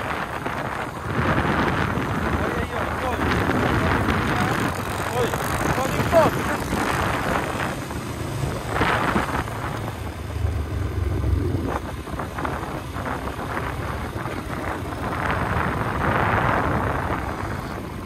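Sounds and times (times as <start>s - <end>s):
wind buffeting microphone: 0.0s - 18.0s
motorcycle engine running: 0.1s - 18.0s.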